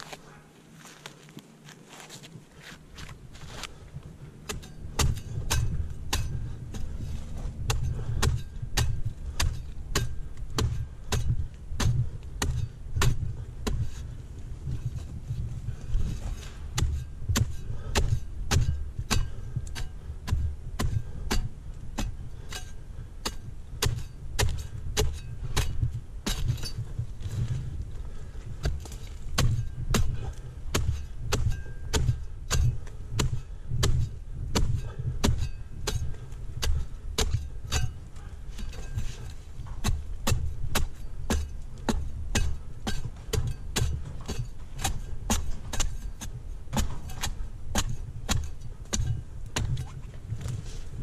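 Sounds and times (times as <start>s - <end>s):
low rumble: 3.1s - 51.0s
blade chopping palm fronds: 4.4s - 15.1s, 15.7s - 50.8s.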